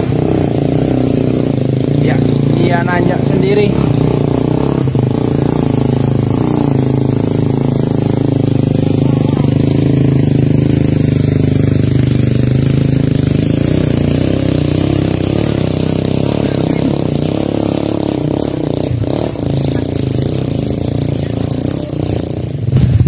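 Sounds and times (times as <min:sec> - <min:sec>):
motorcycle engine under load: 0:00.0 - 0:23.0.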